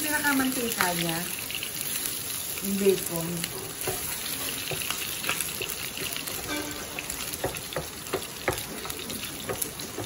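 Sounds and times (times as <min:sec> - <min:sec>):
bacon sizzling and popping: 0:00.0 - 0:10.0.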